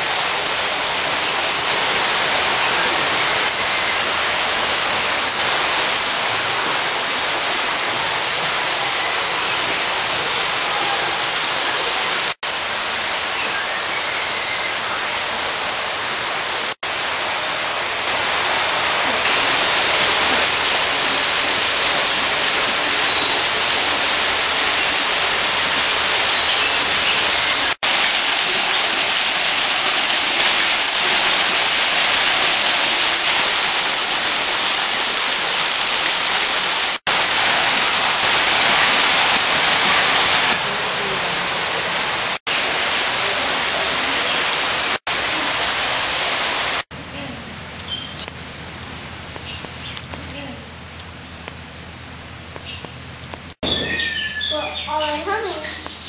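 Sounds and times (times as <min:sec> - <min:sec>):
waterfall rushing: 0:00.0 - 0:50.6.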